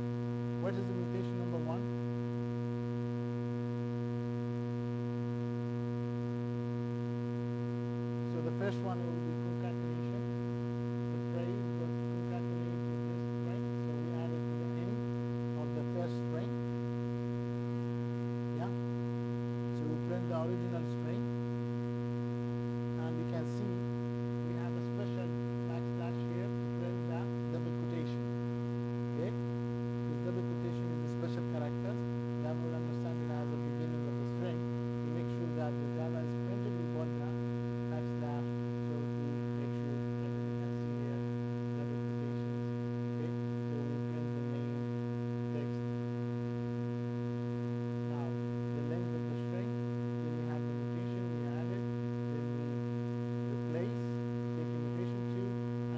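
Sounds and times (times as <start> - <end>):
electrical mains hum: 0.0 - 55.9.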